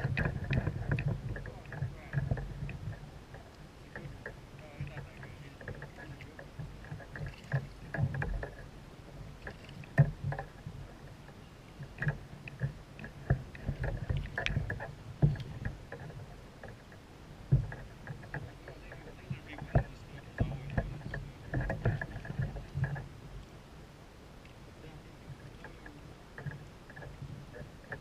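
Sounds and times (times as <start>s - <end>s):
knocks and clicks on a kayak: 0.0s - 23.5s, 25.3s - 28.0s.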